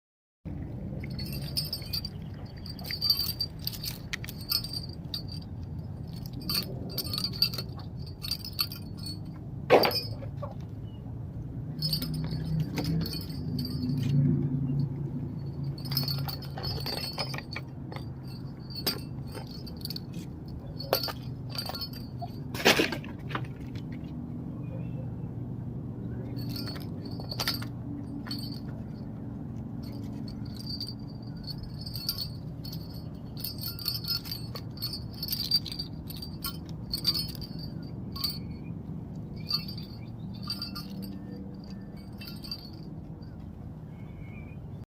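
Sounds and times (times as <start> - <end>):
jingle bell ringing: 0.8 - 11.0, 11.7 - 23.5, 25.9 - 44.4.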